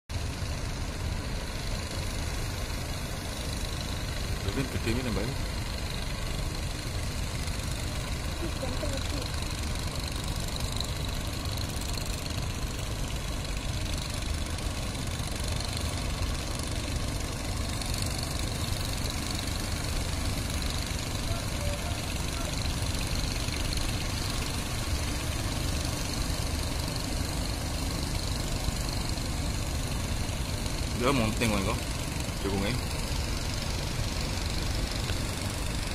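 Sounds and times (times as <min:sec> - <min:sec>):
boat engines running: 0:00.1 - 0:35.9.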